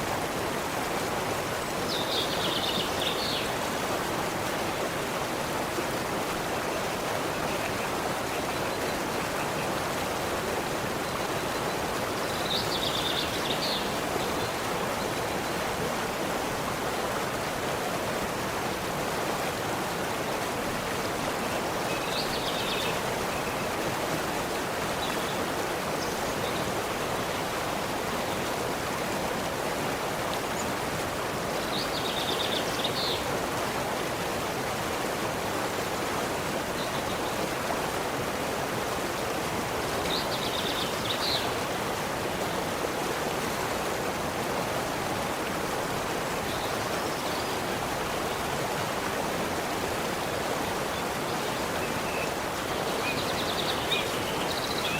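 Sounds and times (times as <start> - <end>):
stream water flowing: 0.0 - 54.9.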